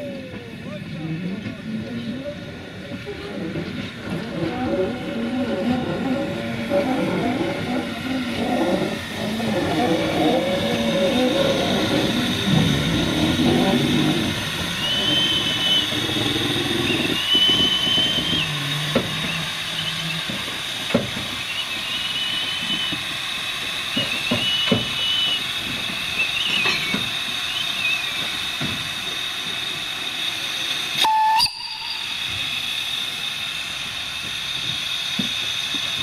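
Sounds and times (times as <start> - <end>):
steam locomotive hissing: 0.0 - 36.0.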